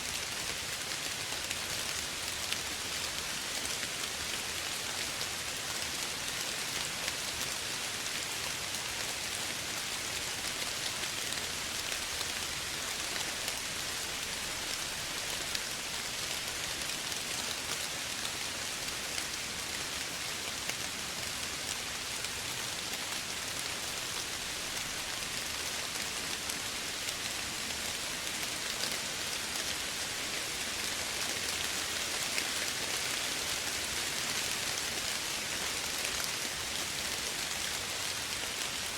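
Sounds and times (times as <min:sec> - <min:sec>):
gentle rain falling: 0:00.0 - 0:38.9.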